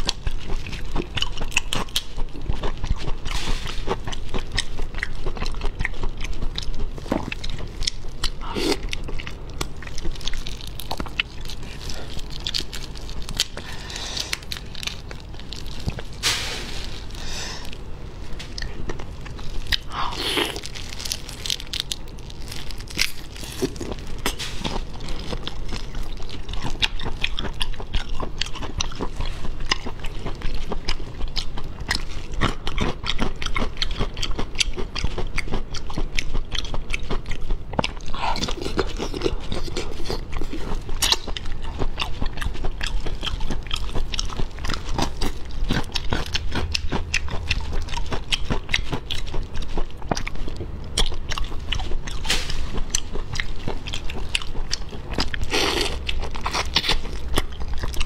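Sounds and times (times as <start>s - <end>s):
wet chewing and crunching: 0.0s - 58.0s.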